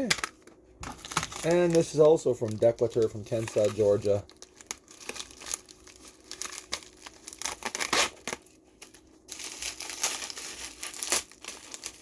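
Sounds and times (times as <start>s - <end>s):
packaging torn and crinkled: 0.0s - 12.0s.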